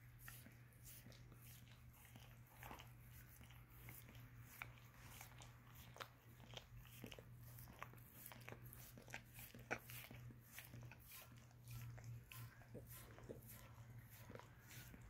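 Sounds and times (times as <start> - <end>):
dog licking foot: 0.0 - 15.0.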